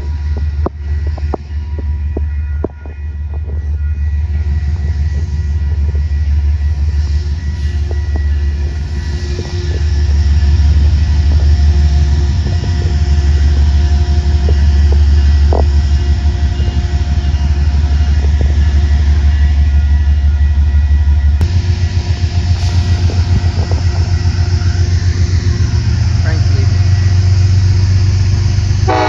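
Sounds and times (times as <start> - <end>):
diesel locomotive droning: 0.0 - 29.0.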